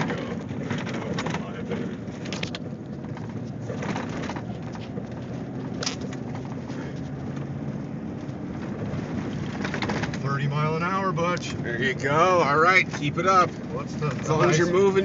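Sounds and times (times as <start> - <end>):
tyre and road noise: 0.0 - 15.0
vehicle engine running under load: 0.0 - 15.0.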